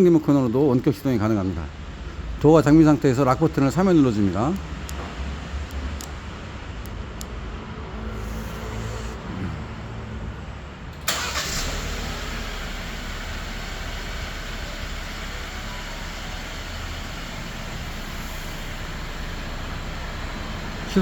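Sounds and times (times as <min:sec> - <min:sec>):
car engine cranking and idling: 0:01.0 - 0:21.0.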